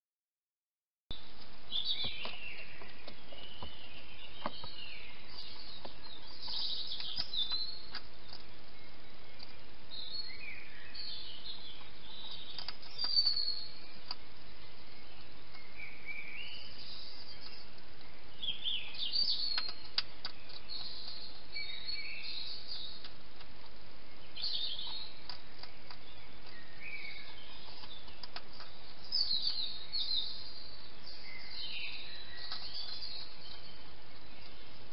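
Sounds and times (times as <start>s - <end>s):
microphone hiss: 1.1s - 34.9s
songbirds singing: 1.1s - 34.9s.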